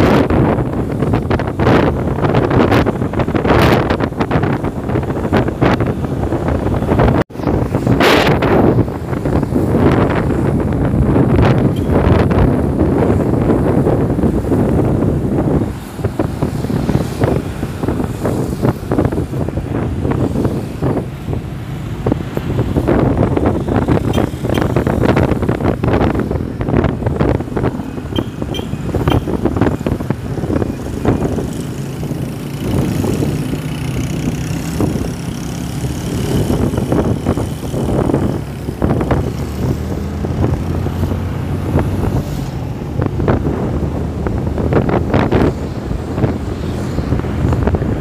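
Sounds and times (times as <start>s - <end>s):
motorcycle engine hum: 0.0s - 48.0s
wind buffeting microphone: 0.0s - 48.0s.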